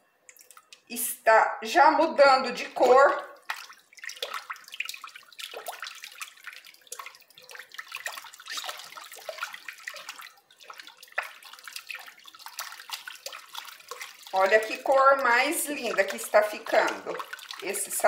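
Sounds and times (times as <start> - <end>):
liquid sloshing in a basin: 2.4 - 18.0.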